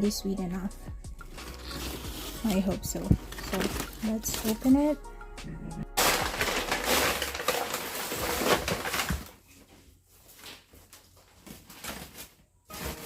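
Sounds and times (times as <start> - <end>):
basket rustling and crackling: 1.2 - 5.0, 6.0 - 13.0.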